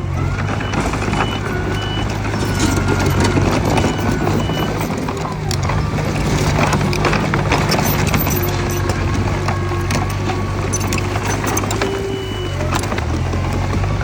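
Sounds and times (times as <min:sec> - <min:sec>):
diesel engine running: 0:00.0 - 0:14.0
reversing alarm beeping: 0:00.1 - 0:10.1, 0:10.7 - 0:13.2
metallic clatter: 0:00.7 - 0:13.0.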